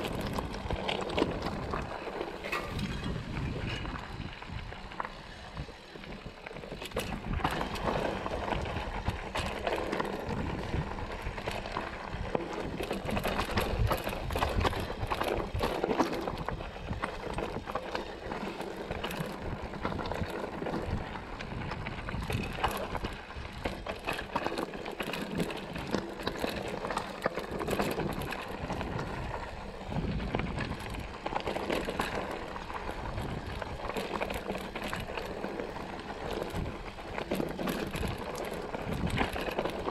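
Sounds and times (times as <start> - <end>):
bike rattling: 0.0 - 39.9
tyres crunching over loose stones: 0.0 - 39.9.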